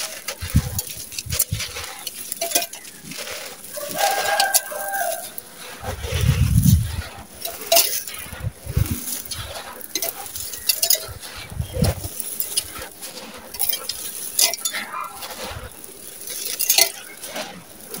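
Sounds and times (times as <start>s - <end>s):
gritty crunching of crumbling lumps: 0.0s - 18.0s
stones clinking: 0.0s - 18.0s.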